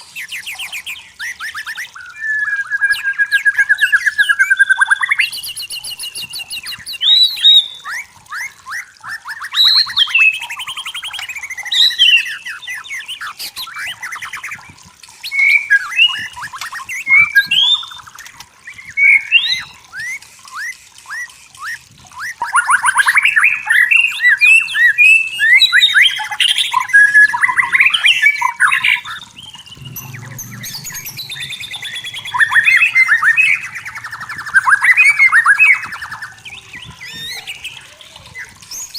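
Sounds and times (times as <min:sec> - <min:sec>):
bird singing varied whistles: 0:00.0 - 0:38.9.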